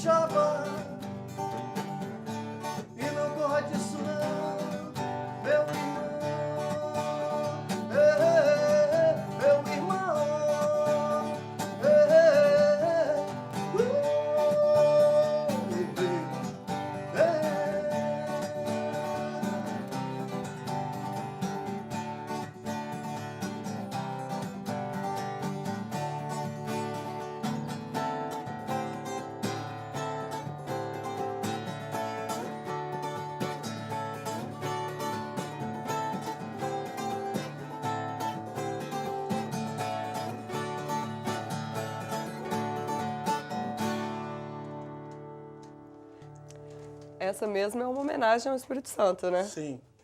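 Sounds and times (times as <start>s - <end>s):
acoustic guitar song: 0.0s - 50.0s.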